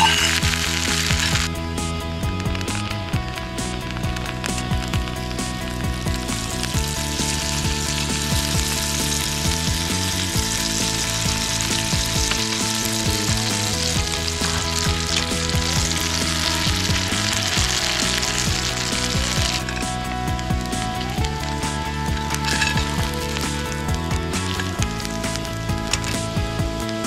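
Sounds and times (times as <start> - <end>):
butter sizzling in a skillet: 0.0 - 27.0
soft background music: 0.0 - 27.0.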